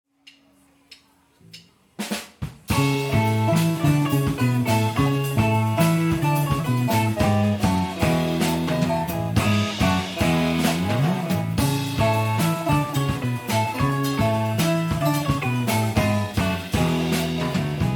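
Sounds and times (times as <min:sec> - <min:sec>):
drum kit: 0:01.5 - 0:17.9
electric bass: 0:02.7 - 0:17.9
sharp drum hits: 0:02.7 - 0:17.9
strummed guitar: 0:02.7 - 0:17.9
viola caipira: 0:02.7 - 0:17.9.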